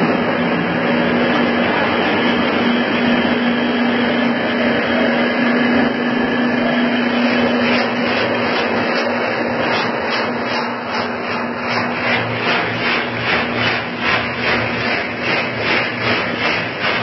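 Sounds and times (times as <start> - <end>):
constant low hum: 0.0 - 17.0
production line machinery running: 0.0 - 17.0.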